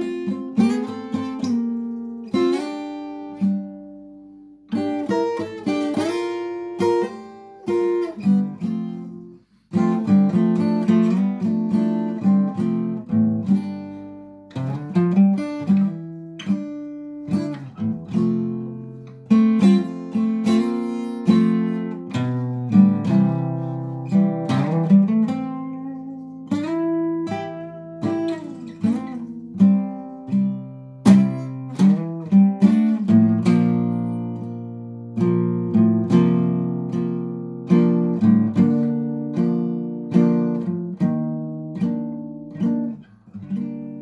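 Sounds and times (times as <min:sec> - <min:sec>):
acoustic guitar playing: 0:00.0 - 0:44.0.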